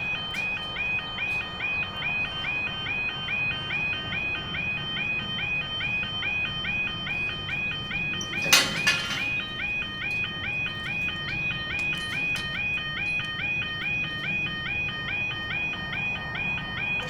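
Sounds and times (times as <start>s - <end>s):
electronic two-tone alarm: 0.0s - 17.0s.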